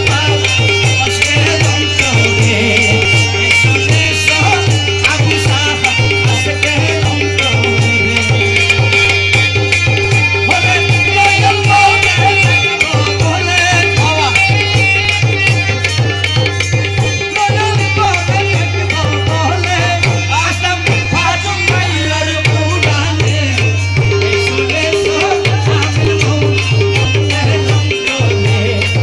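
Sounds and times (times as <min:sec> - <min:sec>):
harmonium melody: 0:00.0 - 0:29.0
tabla rhythm: 0:00.0 - 0:29.0.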